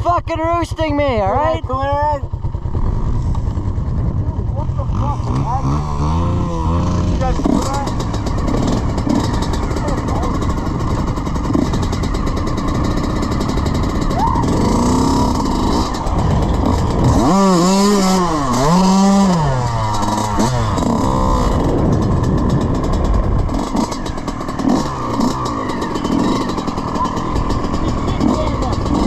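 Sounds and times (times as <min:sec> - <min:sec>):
dirt bike engine revving: 0:00.3 - 0:29.0
rush of noise: 0:02.7 - 0:29.0.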